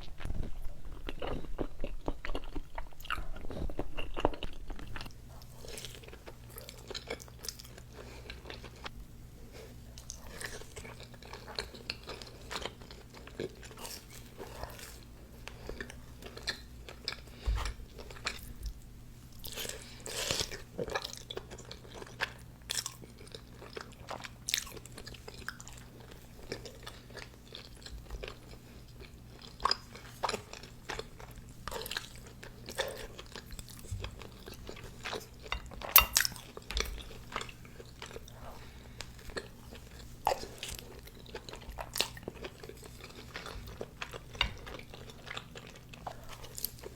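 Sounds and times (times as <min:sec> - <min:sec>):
chewing with crunches: 0:00.0 - 0:46.9.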